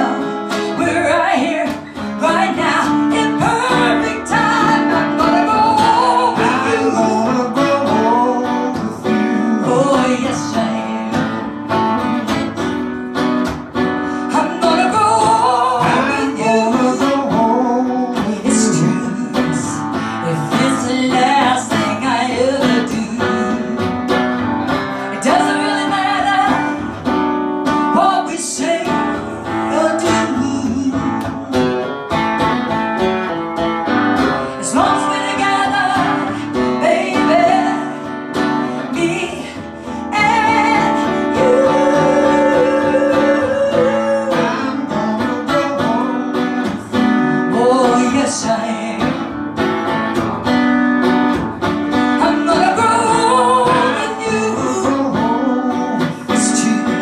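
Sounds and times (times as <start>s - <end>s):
woman singing: 0.0s - 12.5s, 14.0s - 32.2s, 34.2s - 49.4s, 52.0s - 57.0s
acoustic guitar strumming: 0.0s - 57.0s.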